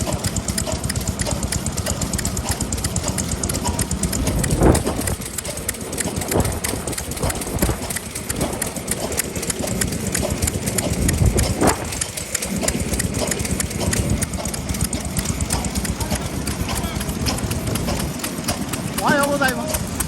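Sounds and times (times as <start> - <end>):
stationary engines clattering: 0.0 - 20.0.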